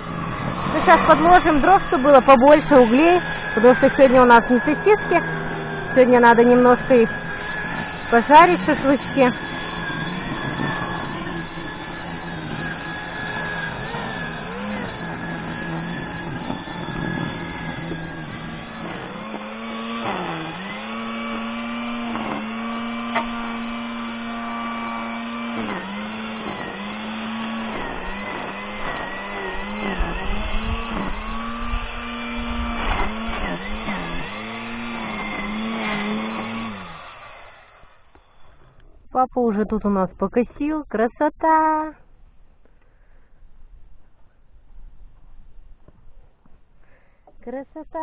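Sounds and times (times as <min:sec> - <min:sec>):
grass trimmer engine whine: 0:00.0 - 0:41.1, 0:41.7 - 0:48.0.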